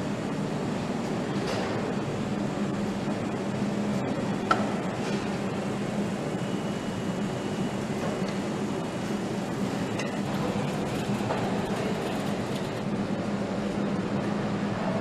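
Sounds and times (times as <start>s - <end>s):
mechanical hum and rumble: 0.0s - 15.0s.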